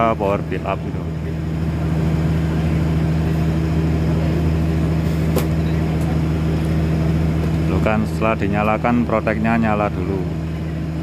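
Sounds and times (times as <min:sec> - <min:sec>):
power equipment humming: 0:00.0 - 0:11.0.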